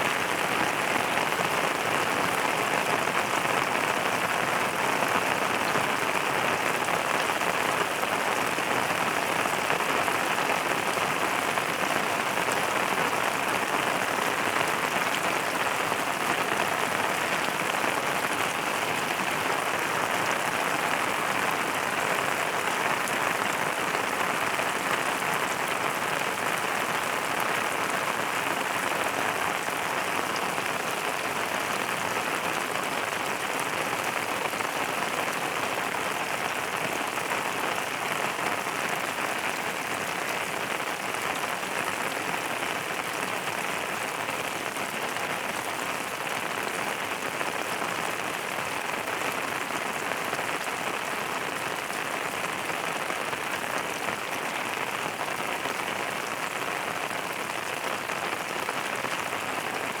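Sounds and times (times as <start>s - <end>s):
rain pattering on a surface: 0.0s - 60.0s.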